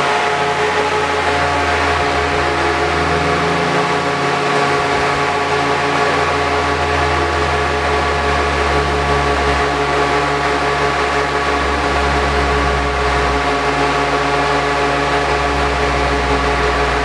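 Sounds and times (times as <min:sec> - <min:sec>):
car engine droning on dyno: 0:00.0 - 0:17.0.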